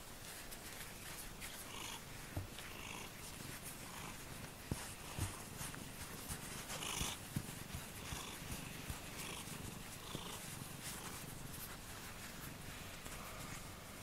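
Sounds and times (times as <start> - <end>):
cat purring: 1.4 - 14.0.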